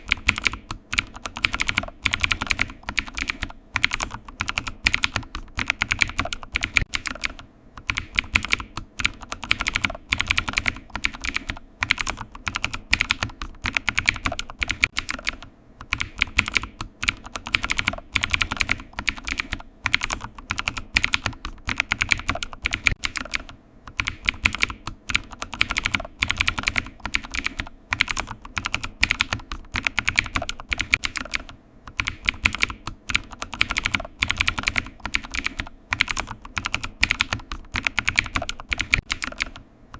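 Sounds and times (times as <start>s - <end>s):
typing on computer keyboard: 0.0s - 39.6s.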